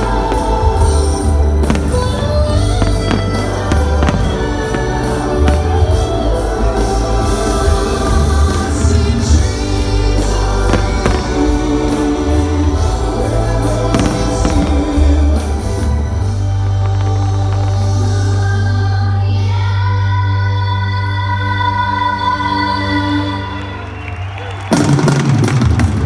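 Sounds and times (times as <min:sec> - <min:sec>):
firework bangs: 0:00.0 - 0:18.8, 0:24.0 - 0:26.0
choir-like singing with heavy bass: 0:00.0 - 0:23.8.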